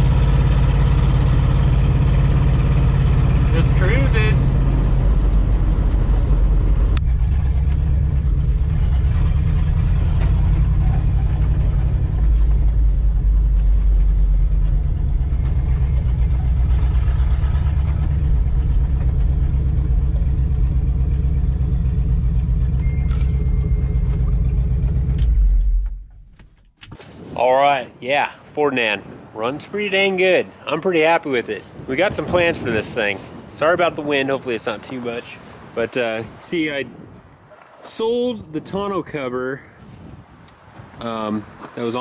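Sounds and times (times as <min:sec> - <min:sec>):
truck engine rumble: 0:00.0 - 0:27.0, 0:27.7 - 0:42.0
gravel road noise: 0:00.0 - 0:42.0.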